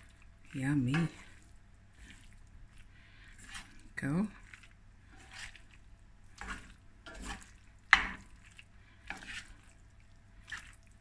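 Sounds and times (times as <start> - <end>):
wooden spoon stirring in metal pan: 0.0 - 11.0.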